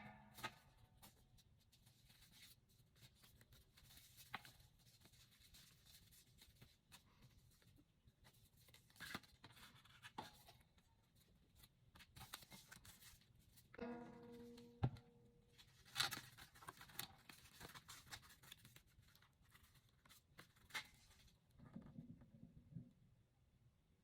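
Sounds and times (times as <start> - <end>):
paper rustling: 0.3 - 21.4.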